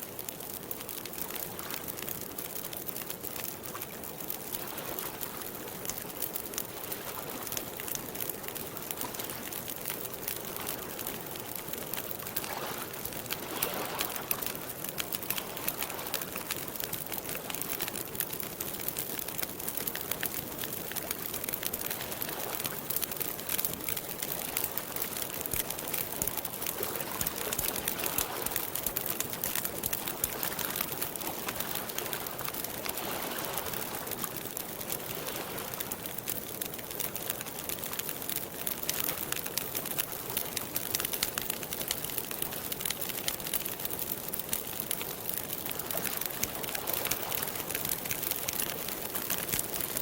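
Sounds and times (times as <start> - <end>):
campfire crackling: 0.0 - 50.0.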